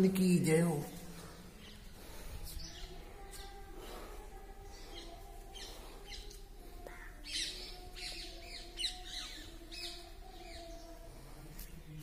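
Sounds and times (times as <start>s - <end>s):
birds chirping and squawking: 1.1s - 11.2s.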